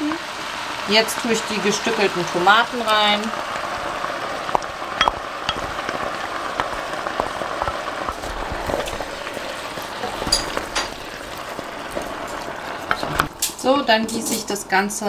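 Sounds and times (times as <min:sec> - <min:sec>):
vegetables sizzling in pot: 0:00.0 - 0:15.0.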